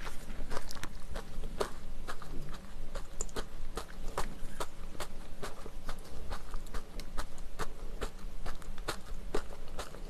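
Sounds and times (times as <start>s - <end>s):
wet mouth chewing: 0.0s - 10.0s.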